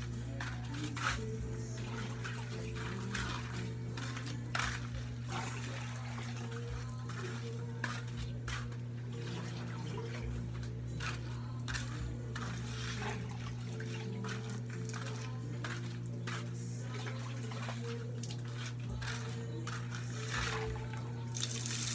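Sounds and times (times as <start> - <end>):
water splashing: 0.0 - 10.4, 11.0 - 21.9.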